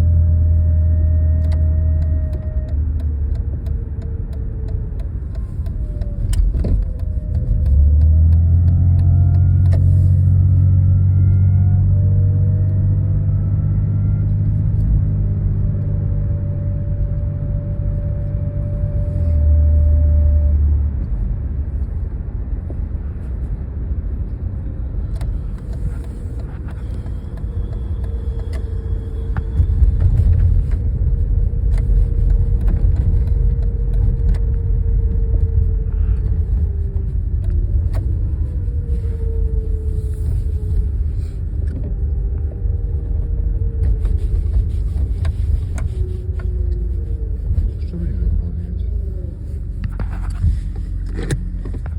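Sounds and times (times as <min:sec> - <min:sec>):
car engine rumble: 0:00.0 - 0:51.9
faint whine: 0:00.0 - 0:51.9.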